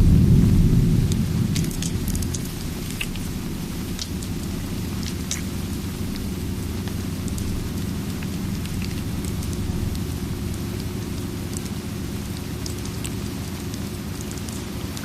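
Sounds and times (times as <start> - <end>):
low thunder rumble: 0.0 - 14.8
steady rain: 0.0 - 15.0
wood fire crackles: 0.0 - 15.0.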